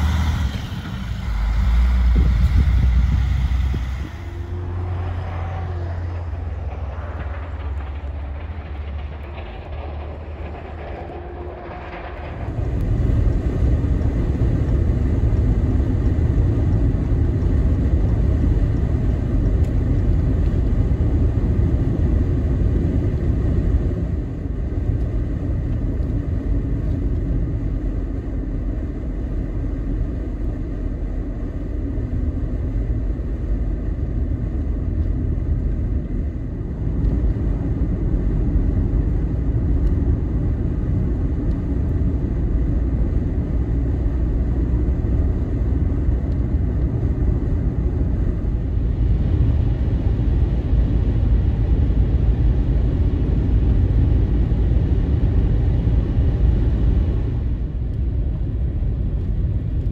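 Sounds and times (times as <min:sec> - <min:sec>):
vehicle driving on snow: 0:00.0 - 0:59.9.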